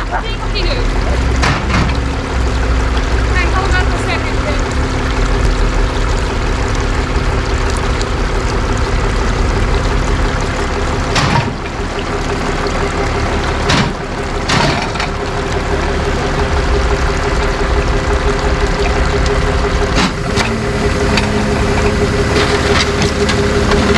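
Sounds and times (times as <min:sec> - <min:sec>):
creek water rushing: 0:00.0 - 0:23.9
truck engine running: 0:00.0 - 0:23.9.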